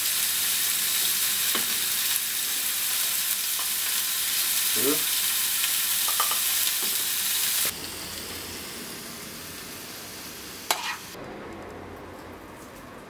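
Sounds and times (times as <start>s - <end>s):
mushrooms sizzling in a pan: 0.0s - 11.2s.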